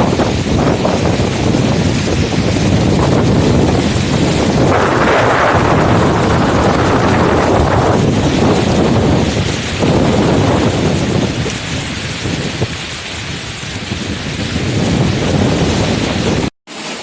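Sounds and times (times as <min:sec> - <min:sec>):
wind buffeting microphone: 0:00.0 - 0:16.5.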